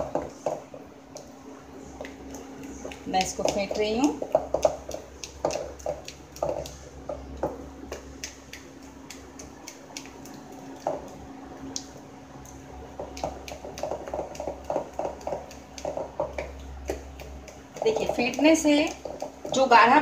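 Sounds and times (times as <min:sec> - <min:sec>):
wet batter squelching: 0:00.0 - 0:20.0.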